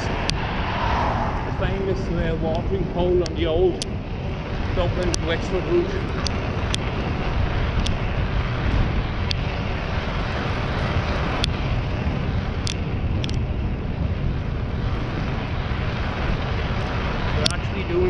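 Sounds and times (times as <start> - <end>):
bicycle tyre and road noise: 0.0 - 18.0
wind rush on microphone: 0.0 - 18.0.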